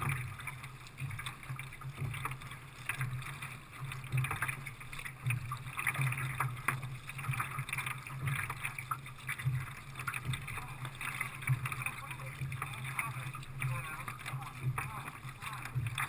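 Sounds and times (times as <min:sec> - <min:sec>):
water splashing against kayak hull: 0:00.0 - 0:16.0.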